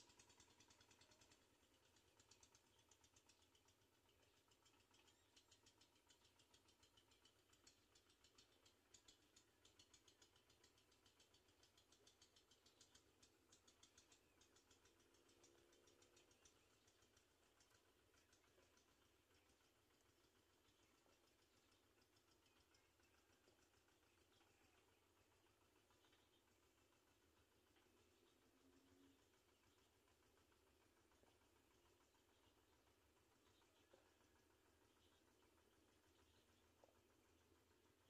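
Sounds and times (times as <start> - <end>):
faint rapid high-pitched ticking: 0.0 - 38.0.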